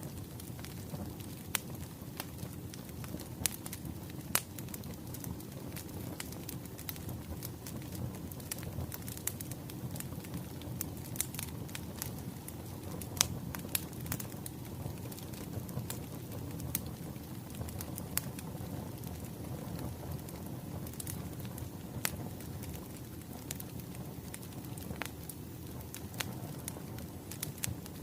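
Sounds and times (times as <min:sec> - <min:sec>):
fire flames rumbling: 0:00.0 - 0:28.0
firewood crackling and popping: 0:00.0 - 0:28.0.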